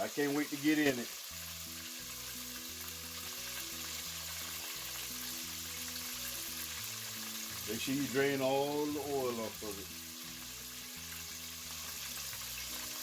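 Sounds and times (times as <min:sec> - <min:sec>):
background music of low notes: 0:00.0 - 0:13.0
oil sizzling deep-frying: 0:00.0 - 0:13.0.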